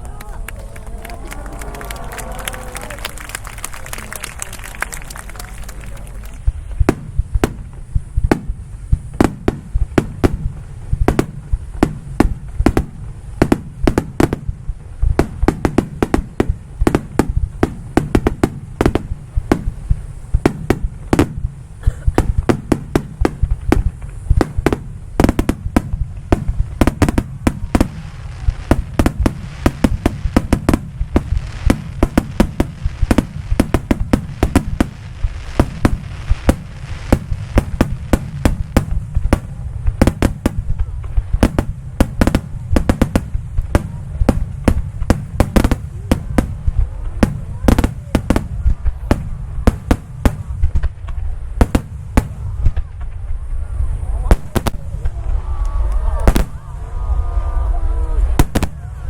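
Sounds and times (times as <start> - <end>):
fireworks bursting: 0.0 - 59.0
low rumble of booms: 6.2 - 59.0.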